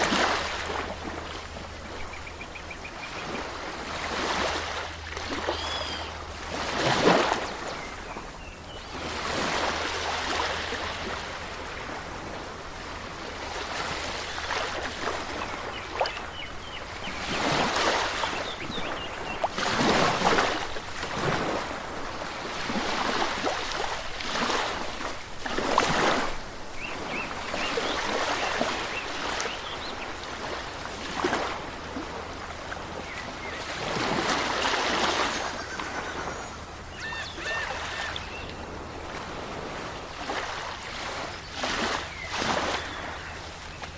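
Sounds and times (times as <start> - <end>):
moving water surging: 0.0 - 43.9.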